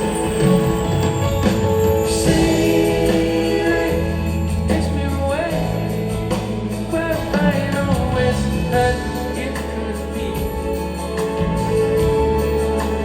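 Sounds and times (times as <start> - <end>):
soft rock band music: 0.0 - 13.0
sung vocals with harmonies: 0.0 - 13.0.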